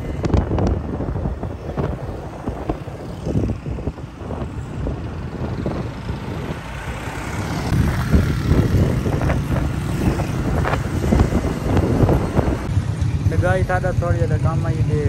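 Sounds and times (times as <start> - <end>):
road vehicle rumbling: 0.0 - 15.0.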